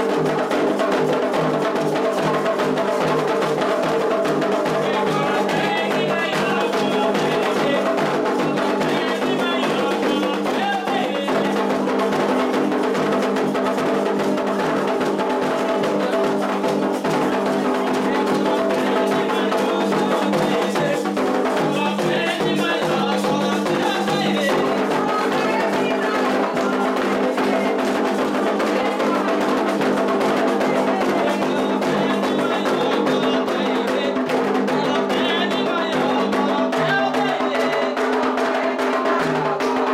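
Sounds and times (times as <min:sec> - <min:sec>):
hand drums playing fast rhythm: 0:00.0 - 0:39.9
voices singing: 0:00.0 - 0:39.9.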